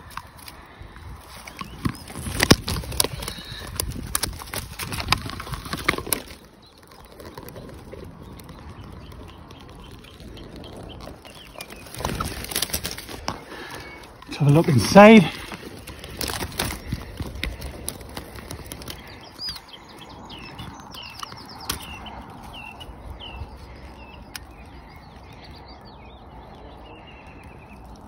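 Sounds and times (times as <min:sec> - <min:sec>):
twigs rustling and cracking: 0:00.0 - 0:28.0.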